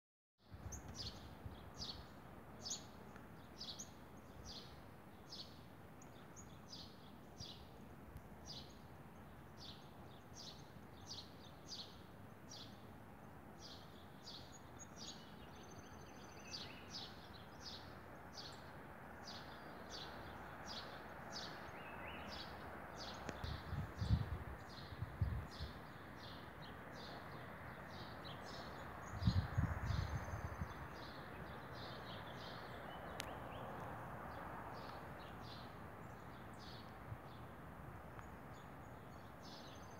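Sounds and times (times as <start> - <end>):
outdoor background noise: 0.4 - 39.9
bird chirping: 0.6 - 12.8, 13.5 - 37.5, 38.2 - 39.9.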